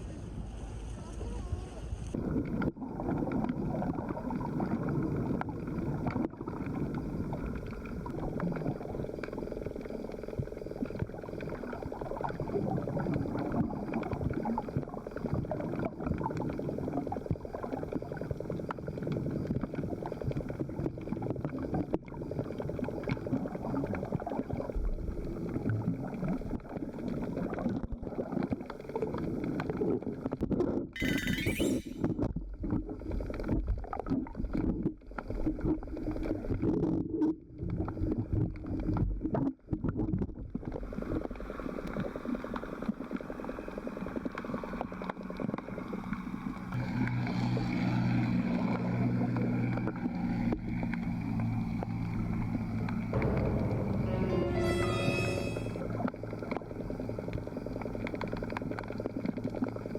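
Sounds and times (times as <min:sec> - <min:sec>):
underwater gurgling and bubbling: 0:02.1 - 0:59.9.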